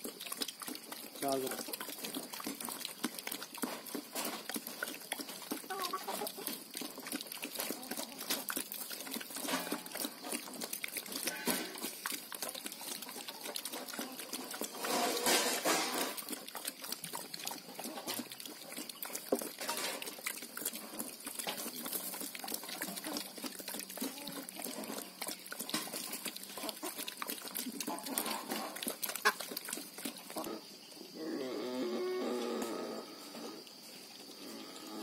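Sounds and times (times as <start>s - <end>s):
pigs slurping and chomping: 0.0s - 31.2s.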